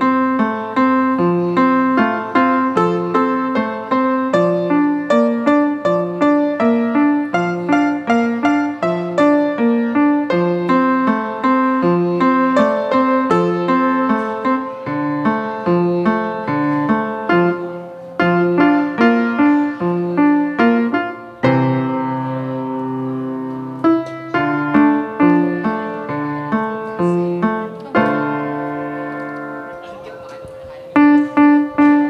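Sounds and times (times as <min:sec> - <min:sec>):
slow piano melody: 0:00.0 - 0:32.0.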